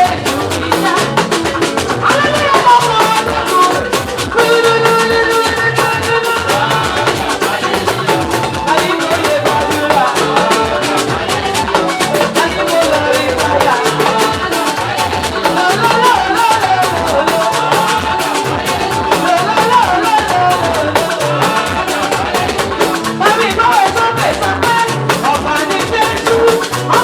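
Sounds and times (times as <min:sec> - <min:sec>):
praise band music: 0:00.0 - 0:27.0.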